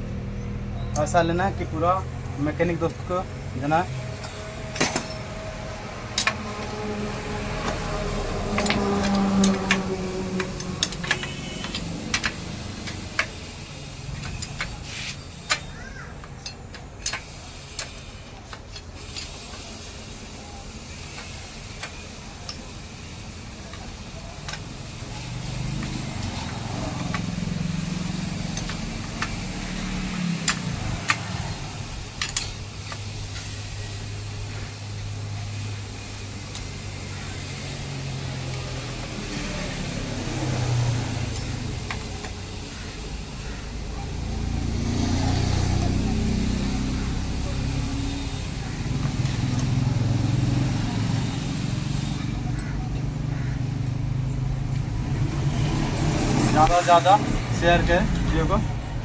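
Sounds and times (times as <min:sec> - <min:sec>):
hand tools clinking on metal: 0:02.6 - 0:42.7, 0:44.0 - 0:53.1.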